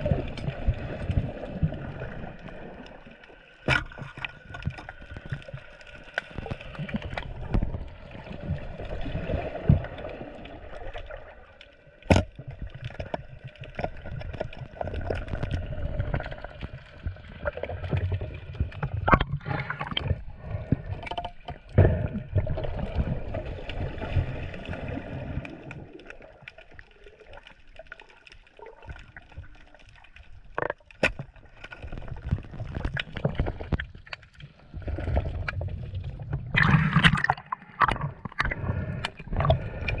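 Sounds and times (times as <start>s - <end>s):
sea water sloshing and gurgling: 0.0s - 40.0s.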